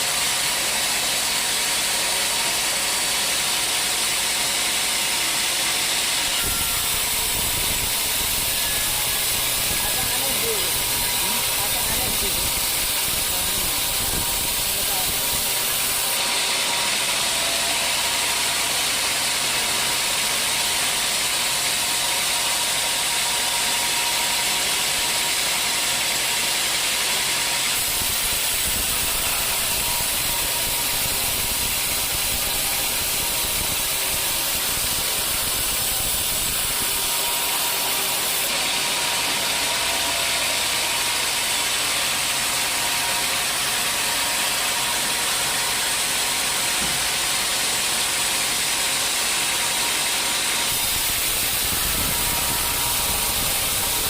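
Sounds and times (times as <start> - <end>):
sawmill saw cutting wood: 0.0 - 54.0.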